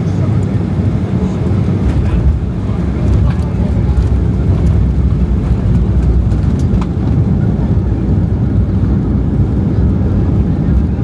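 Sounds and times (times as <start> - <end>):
airliner engines and airflow rumble: 0.0 - 11.0.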